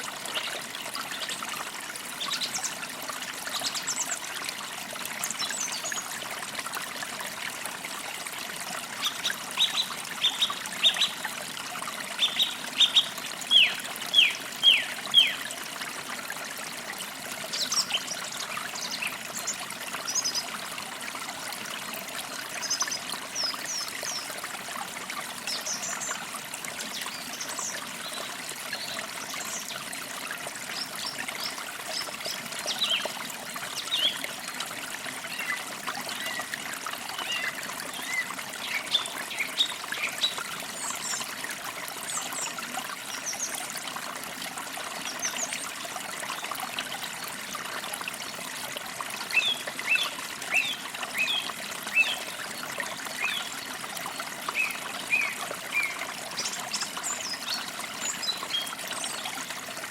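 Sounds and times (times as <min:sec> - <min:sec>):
creek trickling: 0:00.0 - 0:59.9.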